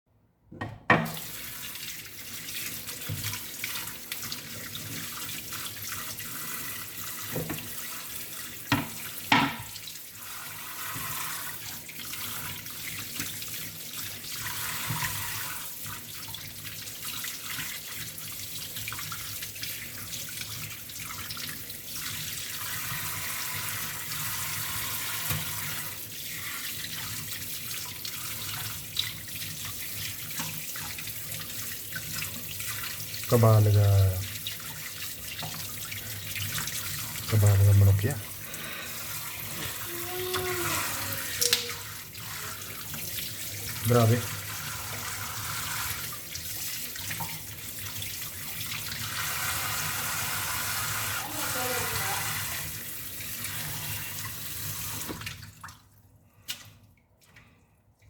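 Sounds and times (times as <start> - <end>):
faucet running into a sink: 0.9 - 55.9.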